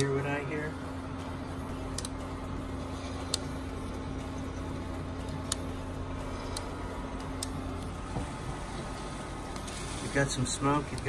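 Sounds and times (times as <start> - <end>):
roaster steady hum: 0.0 - 11.0.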